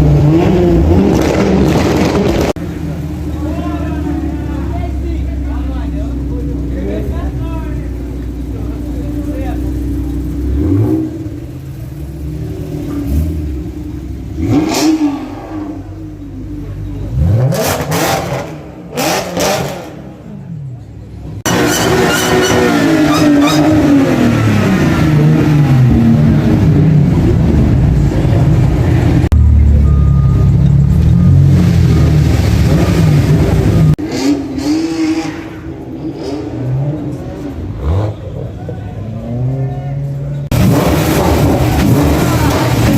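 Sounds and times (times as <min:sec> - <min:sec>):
car engine revving: 0:00.0 - 0:42.9
people's voices: 0:02.6 - 0:34.8, 0:35.6 - 0:40.5, 0:41.2 - 0:42.9.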